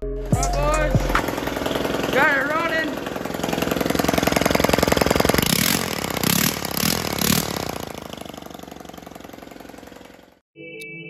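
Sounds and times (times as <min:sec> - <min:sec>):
engine throttle blips: 0:00.3 - 0:10.4
small engine running: 0:00.6 - 0:10.4.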